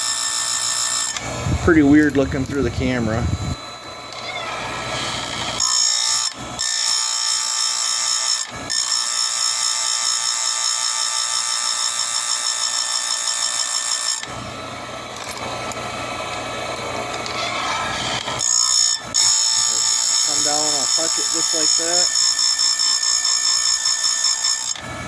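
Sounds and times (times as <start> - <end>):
grinder motor spinning whine: 0.0 - 25.0
grinder wheel rasping whine: 0.0 - 25.0.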